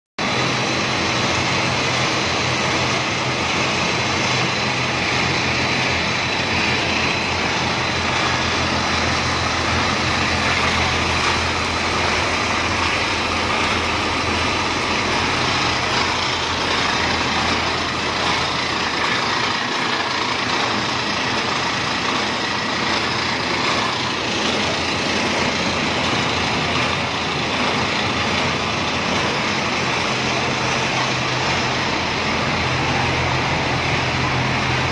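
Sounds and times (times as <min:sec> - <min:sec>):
machinery drone: 0:00.2 - 0:34.9.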